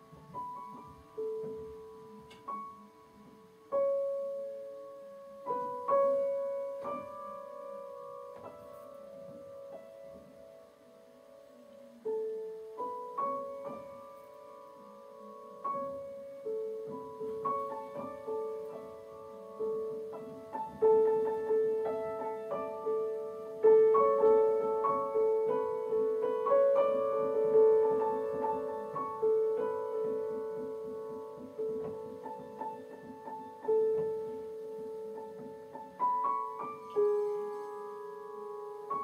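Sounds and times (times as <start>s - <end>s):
solo grand piano: 0.0s - 39.0s.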